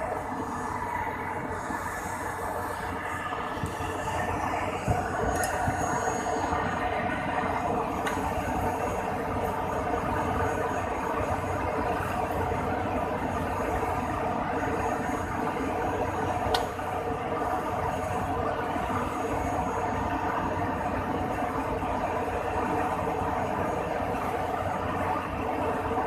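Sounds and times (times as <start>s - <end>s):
aircraft mechanical hum: 0.0s - 26.0s.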